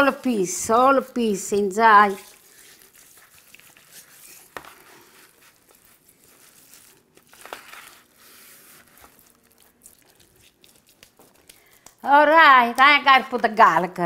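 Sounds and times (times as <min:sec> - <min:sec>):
hands rubbing wet meat: 0:00.0 - 0:13.0.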